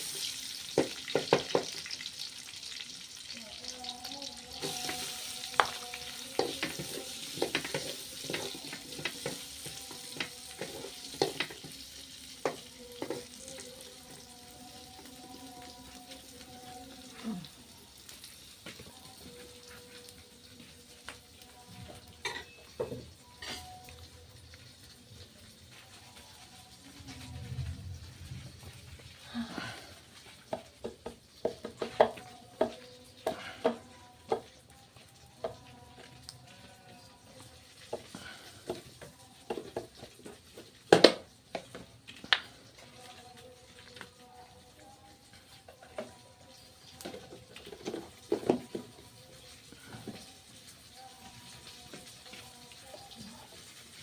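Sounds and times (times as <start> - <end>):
light frying: 0.0 - 54.0
vegetables sizzling in a pan: 0.0 - 54.0.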